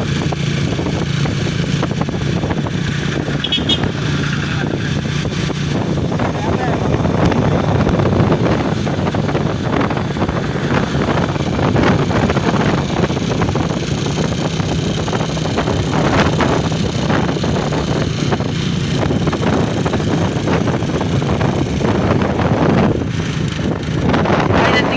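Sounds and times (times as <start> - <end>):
vehicle engine and road noise: 0.0 - 24.9
wind buffeting microphone: 0.0 - 24.9.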